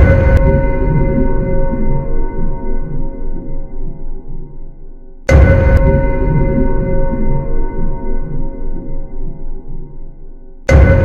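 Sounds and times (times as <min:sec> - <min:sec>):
dark ambient music with low beat: 0:00.0 - 0:11.0.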